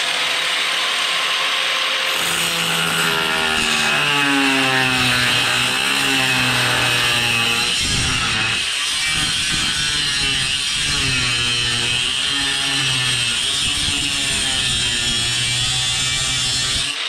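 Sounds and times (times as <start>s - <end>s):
angle grinder cutting metal: 0.0s - 17.0s.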